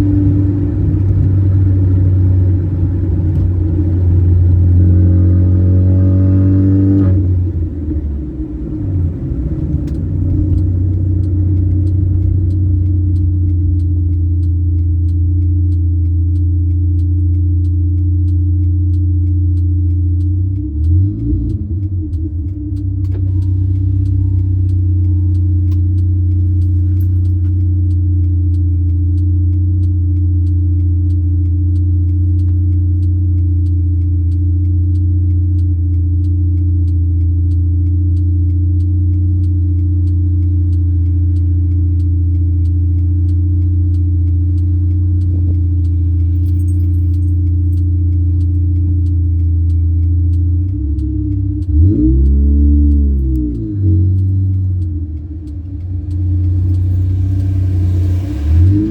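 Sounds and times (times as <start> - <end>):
car engine cruising: 0.0 - 58.9
faint regular ticking: 0.0 - 58.9
road noise: 0.0 - 58.9.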